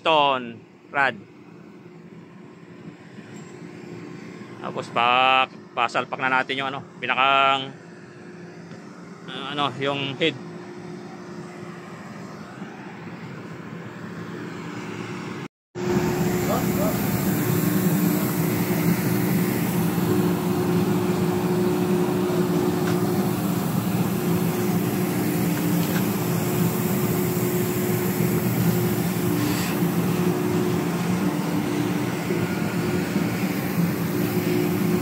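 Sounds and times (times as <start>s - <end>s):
crane machinery droning: 0.7s - 35.0s.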